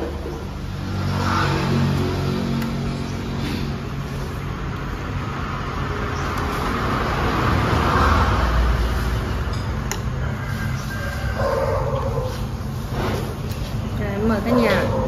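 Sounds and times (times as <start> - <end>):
vehicle passing rumble: 0.0 - 15.0.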